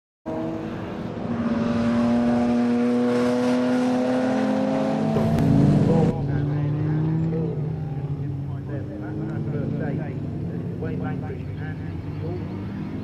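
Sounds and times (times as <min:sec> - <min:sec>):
racing car engine at high revs: 0:00.3 - 0:13.0.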